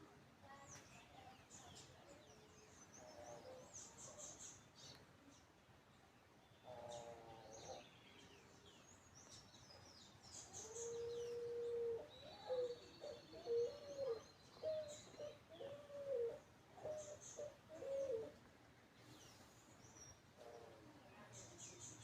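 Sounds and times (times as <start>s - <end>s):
birds chirping: 0.5s - 22.0s.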